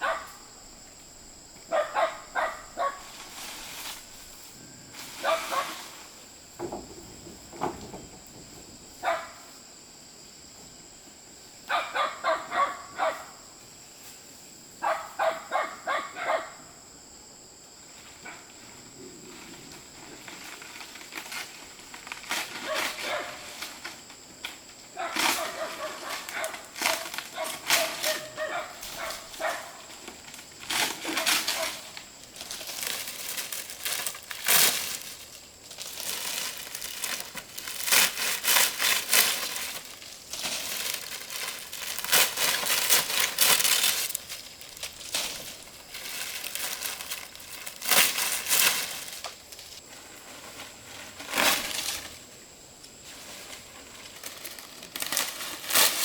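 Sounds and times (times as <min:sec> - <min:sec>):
rustling and crinkling: 0:01.0 - 0:10.8, 0:18.0 - 0:56.0.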